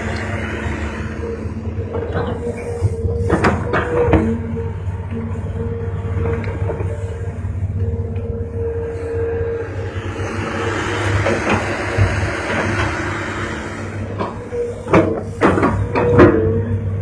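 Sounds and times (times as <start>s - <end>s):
heavy machinery diesel engine: 0.0s - 17.0s
steady whine: 0.0s - 17.0s.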